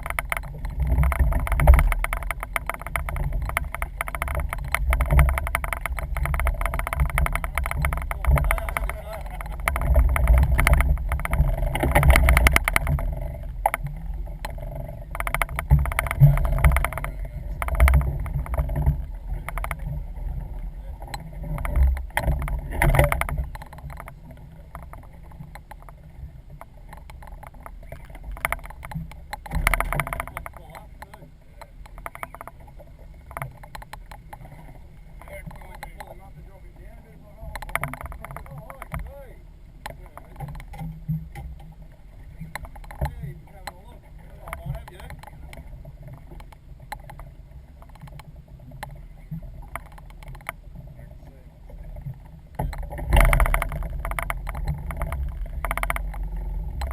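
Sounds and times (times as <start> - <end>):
knocks and clatter: 0.0 - 36.5, 37.4 - 39.2, 42.4 - 50.6, 51.7 - 56.9
boat low rumble: 0.0 - 56.9.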